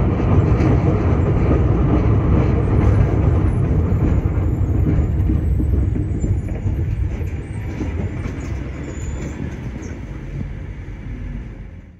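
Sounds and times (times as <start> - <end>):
tram rumbling: 0.0 - 11.9.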